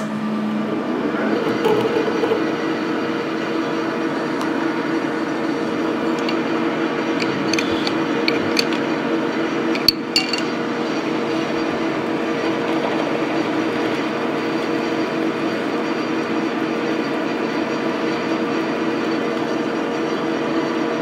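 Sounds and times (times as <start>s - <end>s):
electric drill cutting metal: 1.2s - 20.2s.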